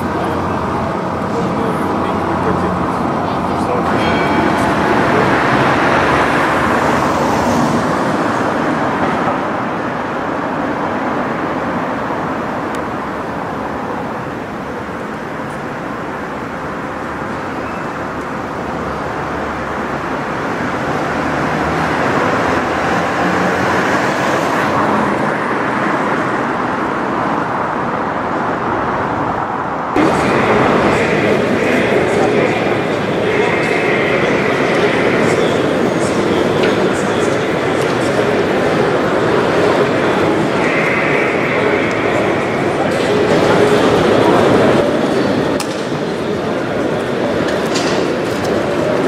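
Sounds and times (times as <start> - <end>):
passing cars rushing: 0.0 - 49.0.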